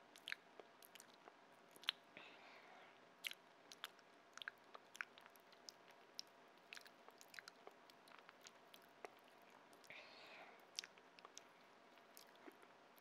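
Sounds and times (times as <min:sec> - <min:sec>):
wet chewing mouth clicks: 0:00.1 - 0:02.0, 0:03.2 - 0:09.9, 0:10.7 - 0:12.6.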